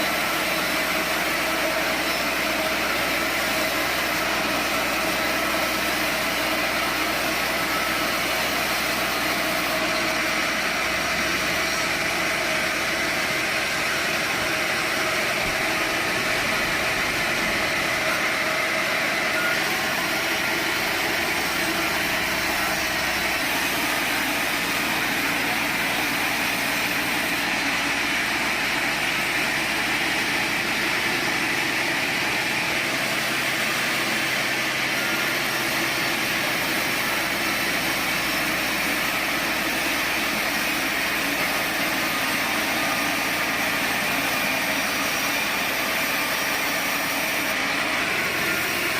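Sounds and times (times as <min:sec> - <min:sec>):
high mechanical whine: 0:00.0 - 0:48.9
sawmill machinery humming: 0:00.0 - 0:48.9.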